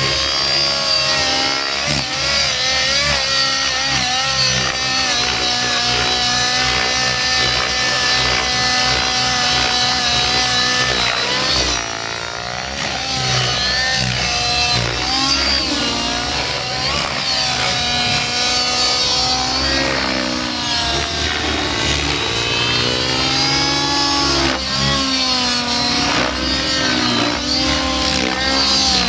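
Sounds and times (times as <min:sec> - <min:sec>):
model helicopter engine and rotor: 0:00.0 - 0:29.0.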